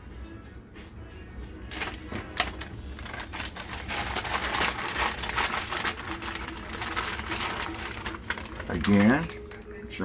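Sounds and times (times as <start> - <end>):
food rustling and scraping: 1.7 - 9.8.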